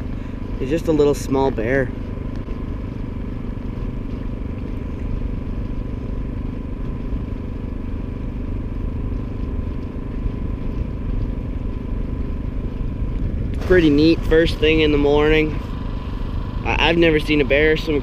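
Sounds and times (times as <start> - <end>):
outboard motor droning: 0.0 - 18.0.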